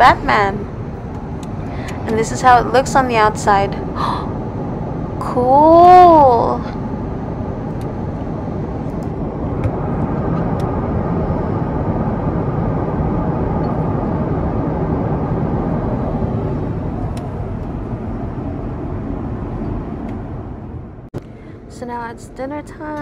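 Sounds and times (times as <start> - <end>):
jet engine cabin roar: 0.0 - 23.0.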